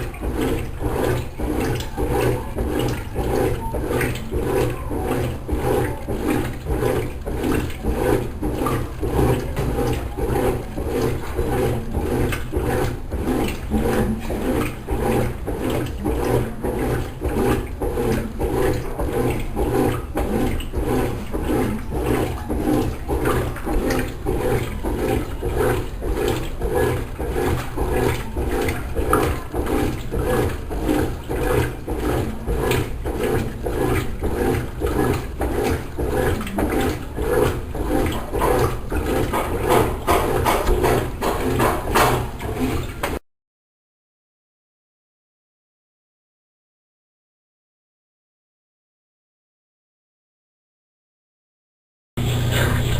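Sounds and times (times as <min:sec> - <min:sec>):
washing machine agitator motor: 0:00.0 - 0:43.2, 0:52.2 - 0:52.9
water and clothes sloshing: 0:00.0 - 0:43.2.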